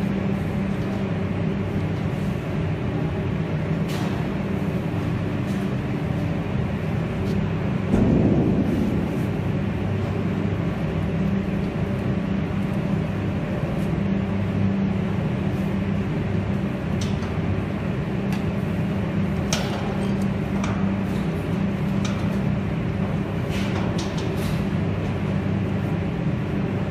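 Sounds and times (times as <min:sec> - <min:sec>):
industrial machinery hum: 0:00.0 - 0:26.9.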